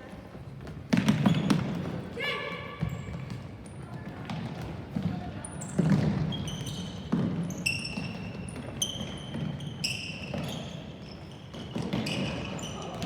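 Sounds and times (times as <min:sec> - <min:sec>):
shoes squeaking on court floor: 0:00.0 - 0:02.1, 0:02.7 - 0:13.0.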